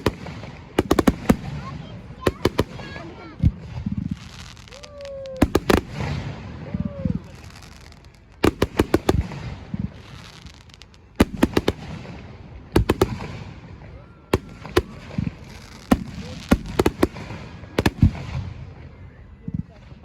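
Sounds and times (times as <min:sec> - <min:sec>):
background murmur: 0:00.0 - 0:20.0
fireworks bangs: 0:00.0 - 0:20.0.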